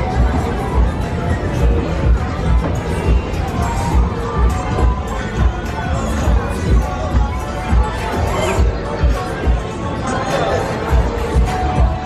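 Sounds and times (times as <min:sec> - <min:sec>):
crowd noise: 0:00.0 - 0:12.0
pop music with bass beat: 0:00.0 - 0:12.0.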